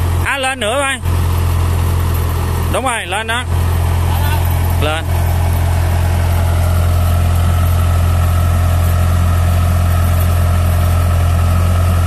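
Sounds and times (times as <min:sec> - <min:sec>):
diesel engine humming: 0:00.0 - 0:12.0
hydraulic whine: 0:00.0 - 0:12.0.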